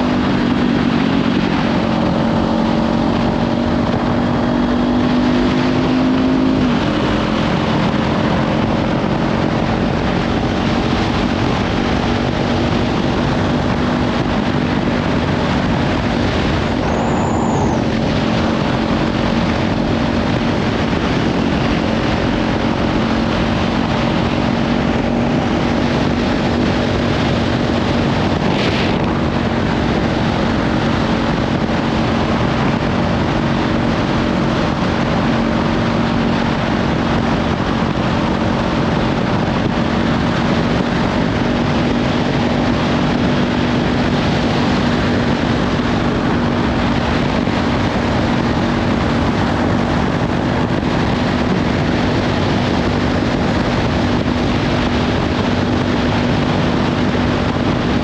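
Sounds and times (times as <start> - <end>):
motorcycle engine cruising: 0.0 - 58.0
wind noise on microphone: 0.0 - 58.0.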